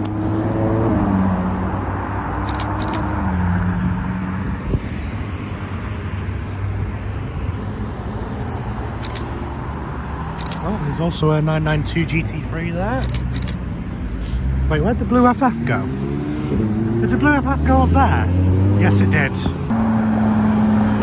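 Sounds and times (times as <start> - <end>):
traffic and tyre noise: 0.0 - 21.0.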